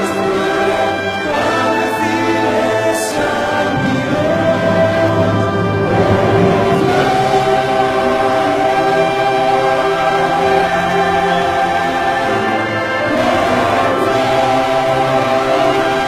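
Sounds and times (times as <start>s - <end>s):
choir singing gospel song: 0.0s - 16.0s
orchestral accompaniment: 0.0s - 16.0s.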